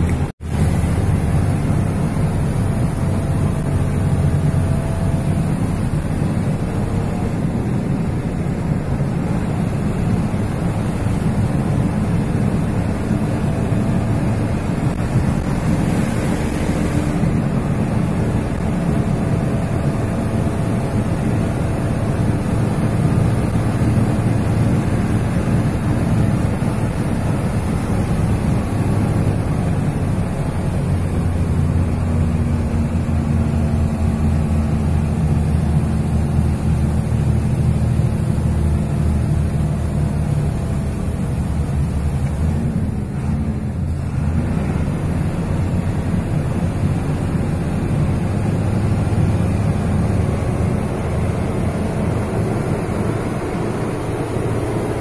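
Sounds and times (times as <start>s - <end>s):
heavy vehicle engine drone: 0.0s - 55.0s
road noise: 0.0s - 55.0s
wind buffeting microphone: 0.0s - 55.0s.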